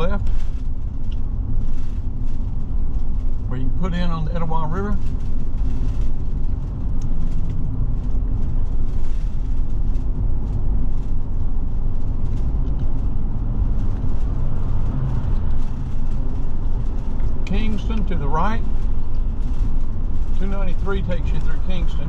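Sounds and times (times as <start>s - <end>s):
constant hum tones: 0.0s - 22.0s
engine and road noise drone: 0.0s - 22.0s.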